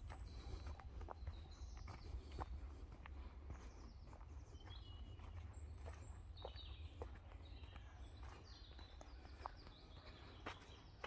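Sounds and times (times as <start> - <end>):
footsteps on dirt path: 0.0 - 11.0.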